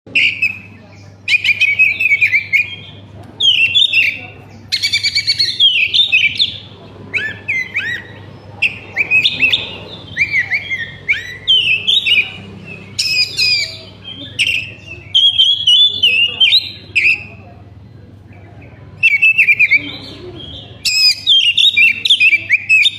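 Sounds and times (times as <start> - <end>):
magpie-robin singing: 0.1 - 22.9.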